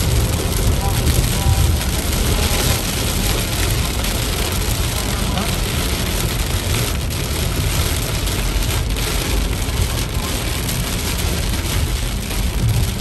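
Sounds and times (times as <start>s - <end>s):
car hum: 0.0s - 13.0s
heavy rain on car windshield: 0.0s - 13.0s
tyres hissing on wet road: 0.0s - 13.0s.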